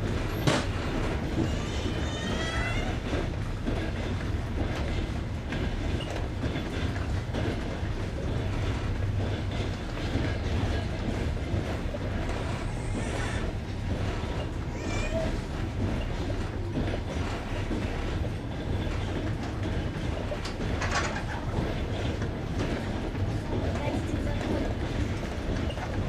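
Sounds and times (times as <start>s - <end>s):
train rumble: 0.0s - 26.0s
wheels clacking on rail joints: 0.0s - 26.0s.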